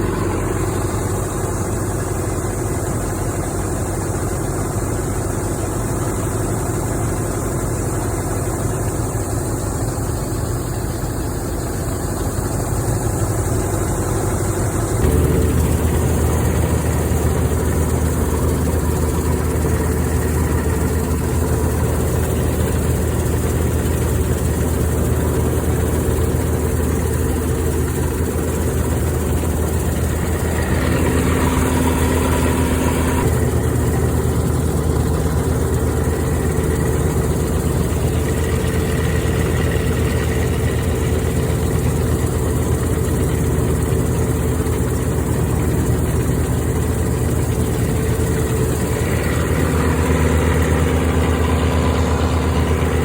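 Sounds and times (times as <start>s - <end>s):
combine harvester engine running: 0.0s - 53.0s.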